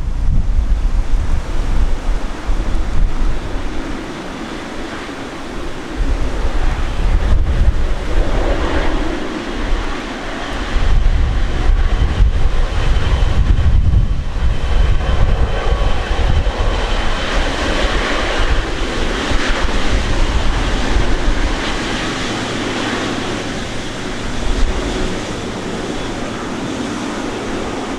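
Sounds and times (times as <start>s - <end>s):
jet engine roar with whine: 0.0s - 27.9s
wind buffeting microphone: 0.0s - 27.9s.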